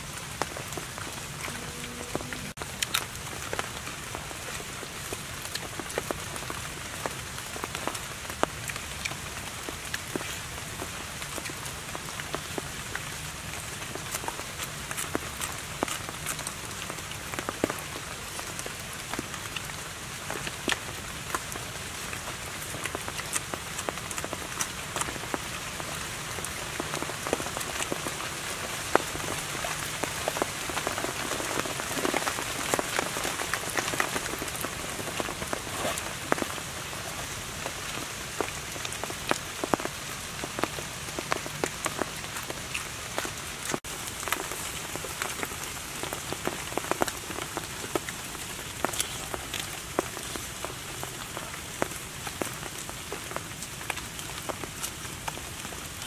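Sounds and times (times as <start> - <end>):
rain on leaves: 0.0 - 56.0.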